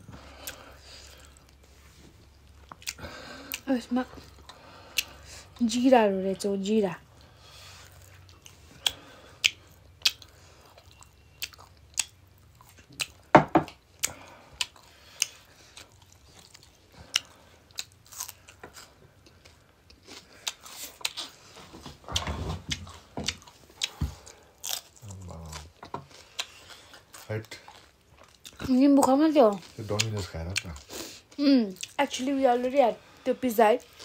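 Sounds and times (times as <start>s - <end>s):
crunching and chewing: 0.1s - 5.6s, 7.1s - 32.0s.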